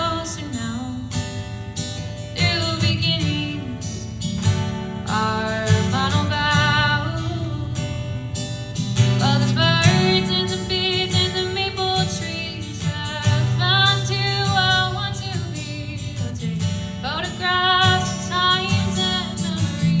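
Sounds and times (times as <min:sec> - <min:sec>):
woman singing: 0:00.0 - 0:01.5, 0:02.2 - 0:04.4, 0:05.0 - 0:20.0
guitar and bass: 0:00.0 - 0:20.0.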